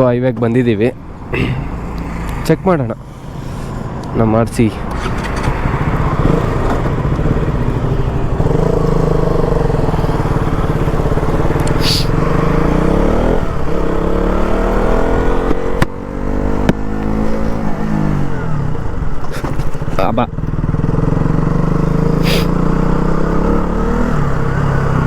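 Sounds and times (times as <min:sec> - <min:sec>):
motorcycle engine revving: 0:01.0 - 0:25.0.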